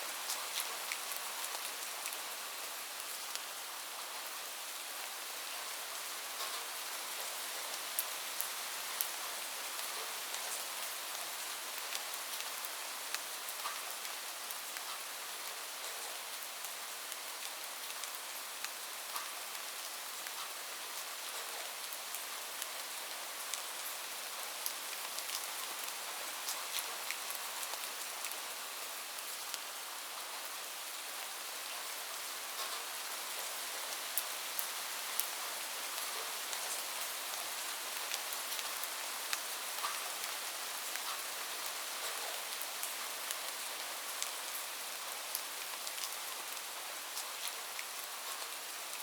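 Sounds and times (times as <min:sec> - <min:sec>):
light rain falling: 0:00.0 - 0:49.0.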